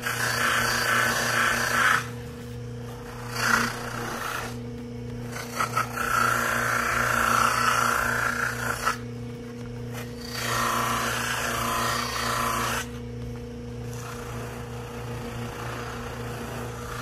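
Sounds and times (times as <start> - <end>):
bench motor humming: 0.0 - 17.0.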